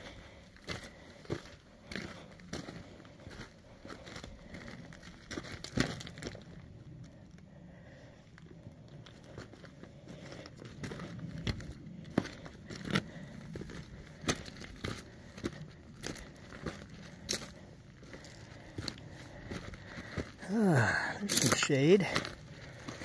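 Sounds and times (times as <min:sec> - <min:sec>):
footsteps crunching on gravel: 0:00.1 - 0:06.6, 0:09.1 - 0:23.0.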